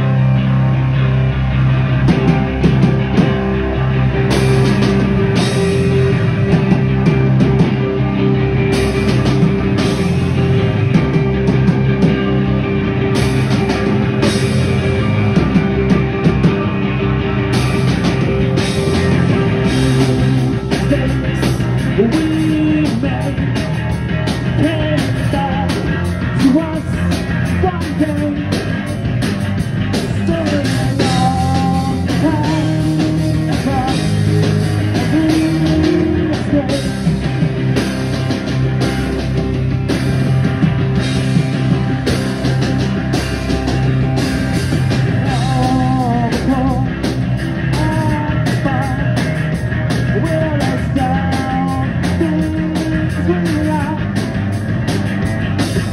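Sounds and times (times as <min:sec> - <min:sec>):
rock band playing loudly: 0:00.0 - 0:55.9.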